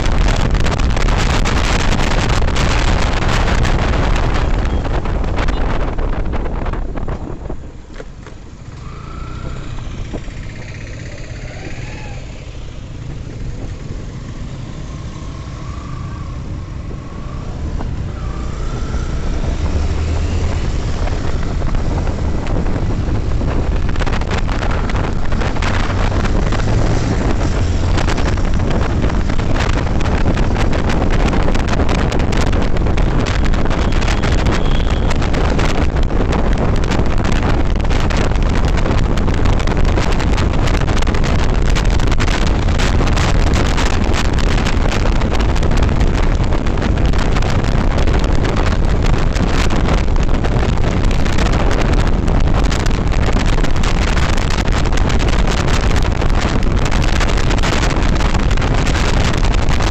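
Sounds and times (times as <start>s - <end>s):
motorcycle low rumble: 0.0s - 59.9s
wind buffeting microphone: 0.0s - 59.9s.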